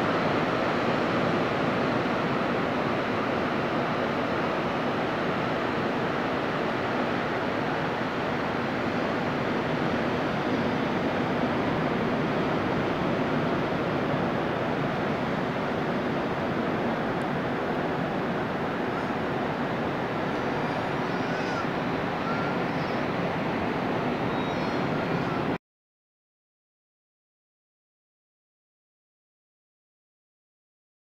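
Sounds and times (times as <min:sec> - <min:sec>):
ocean surf breaking on shore: 0:00.0 - 0:25.6.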